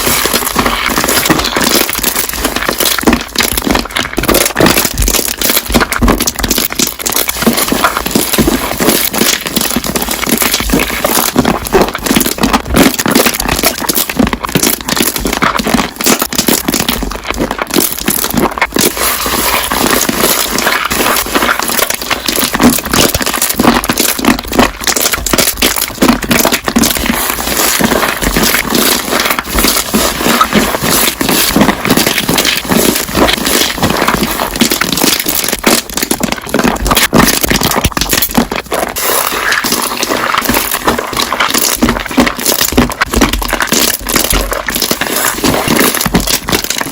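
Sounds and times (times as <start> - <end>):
slime bubbles popping and crackling: 0.0 - 46.9.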